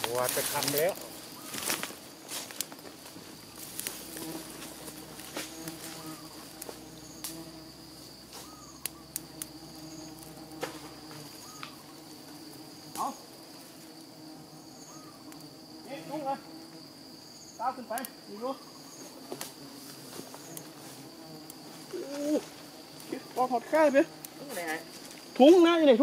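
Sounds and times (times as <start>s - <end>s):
high cricket trill: 0.0s - 26.0s
wavering insect calls: 0.0s - 26.0s
faint short insect chirps: 0.6s - 2.0s, 5.4s - 13.3s, 13.9s - 25.9s.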